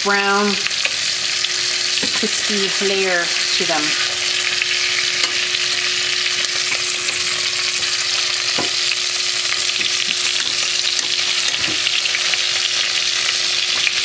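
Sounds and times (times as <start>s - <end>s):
meat sizzling in butter: 0.0s - 14.0s.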